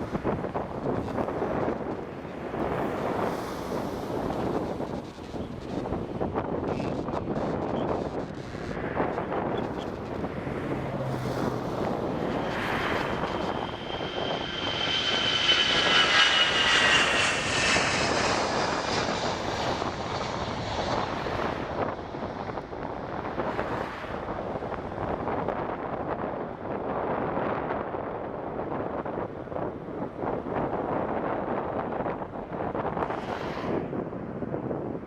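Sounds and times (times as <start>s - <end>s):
jet engines at takeoff: 0.0s - 35.0s.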